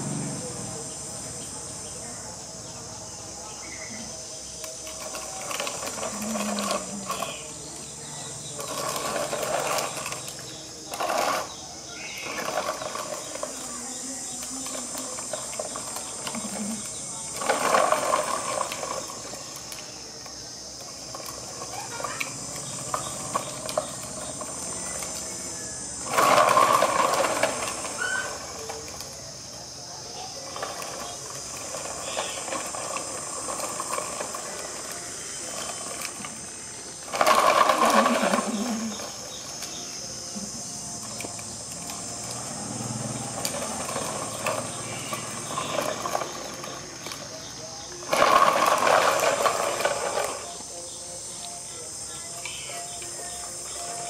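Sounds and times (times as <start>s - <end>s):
steady high buzz: 0.0s - 54.0s
toy truck rattling over tiles: 0.0s - 54.0s.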